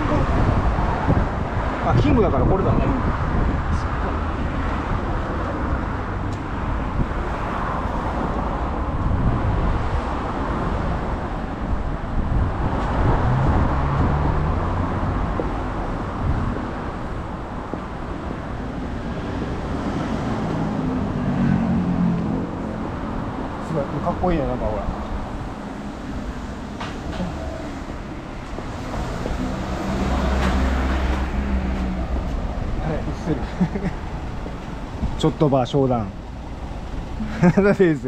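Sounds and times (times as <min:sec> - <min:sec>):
cars passing on road: 0:00.0 - 0:38.0.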